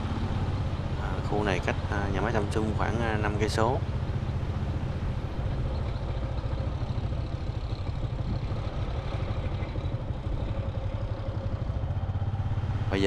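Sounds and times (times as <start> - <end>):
heavy low rumble: 0.0 - 13.0
vehicle engine running: 0.0 - 13.0.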